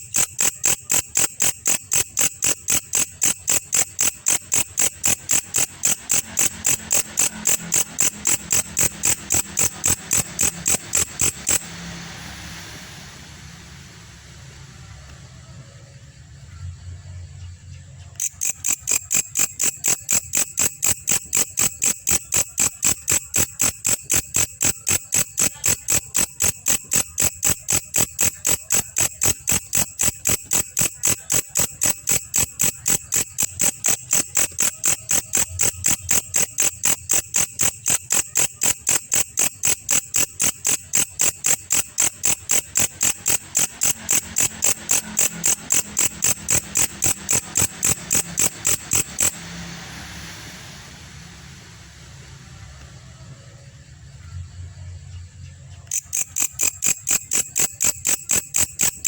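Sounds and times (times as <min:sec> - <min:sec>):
insect chirping in high clicks: 0:00.0 - 0:15.3, 0:18.0 - 0:51.0, 0:55.7 - 0:59.0.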